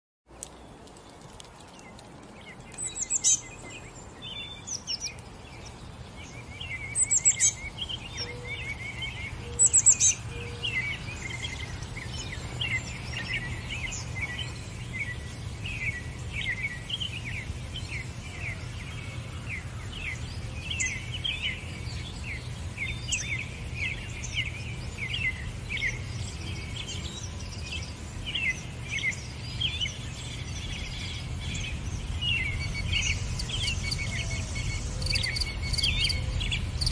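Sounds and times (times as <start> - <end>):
small birds chirping: 0.3 - 36.9.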